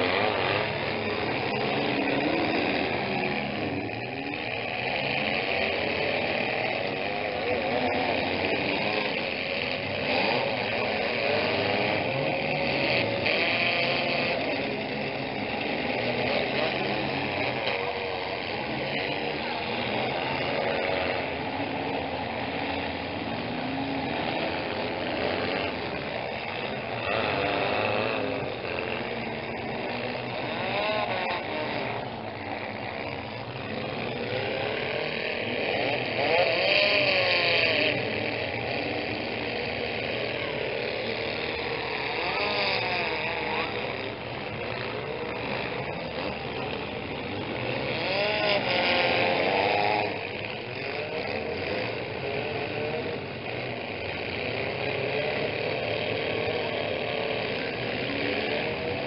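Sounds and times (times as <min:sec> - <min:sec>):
car engines revving and idling: 0:00.0 - 0:59.0.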